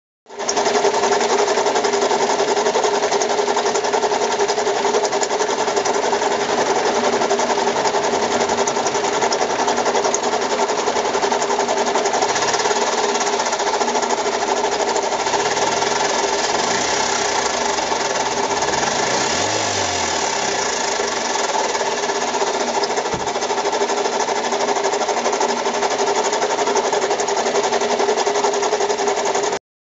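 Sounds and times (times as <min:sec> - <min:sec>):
car engine idling with knocking: 0:00.4 - 0:29.6.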